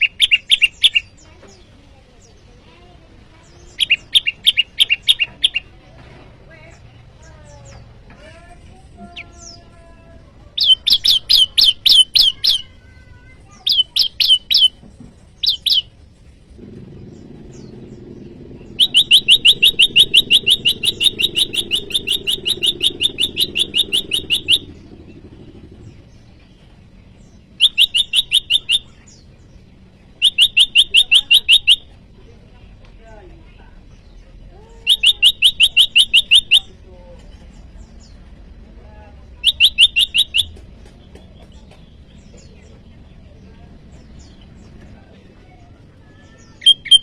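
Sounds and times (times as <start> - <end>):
bird chattering song: 0.0 - 47.0
low rumble: 1.1 - 30.3, 36.7 - 46.6.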